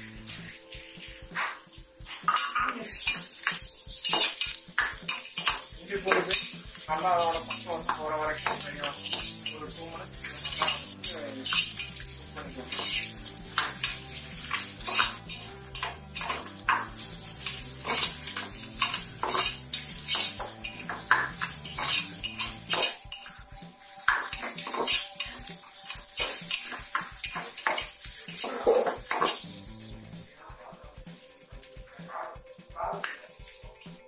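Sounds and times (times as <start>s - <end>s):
frying sizzle: 0.0s - 34.0s
metal spatula scraping a pot: 0.2s - 34.0s.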